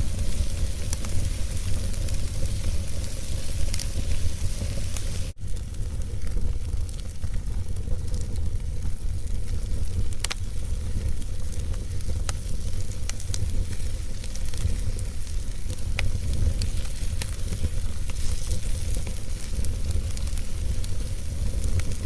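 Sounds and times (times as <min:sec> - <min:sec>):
low rumble of burning fire: 0:00.0 - 0:22.0
wood fire crackling: 0:00.0 - 0:22.0.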